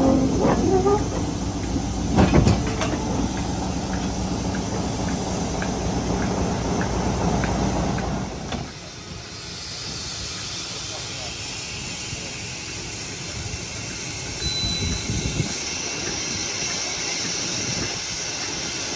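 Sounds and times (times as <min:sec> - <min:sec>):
train rumble: 0:00.0 - 0:18.9.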